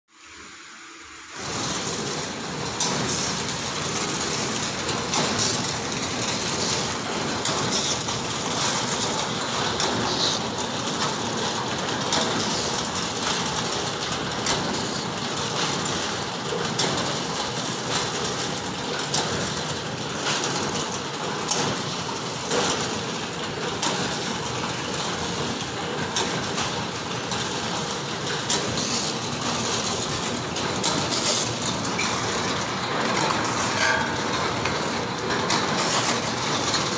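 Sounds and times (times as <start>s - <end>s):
packing machine clattering: 1.3s - 36.9s
sharp machine clicks: 1.3s - 36.9s.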